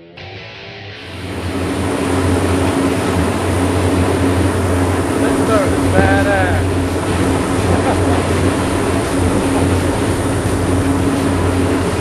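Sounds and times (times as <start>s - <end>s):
boat engine droning: 1.0s - 12.0s
rush of churning wake: 1.1s - 12.0s.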